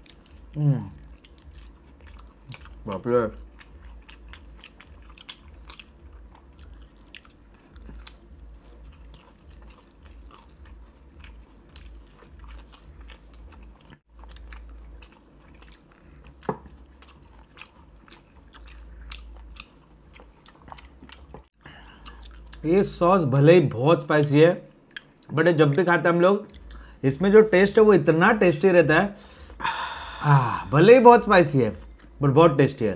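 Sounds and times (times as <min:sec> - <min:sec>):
chewing fried chicken: 0:00.0 - 0:23.1, 0:24.2 - 0:27.8.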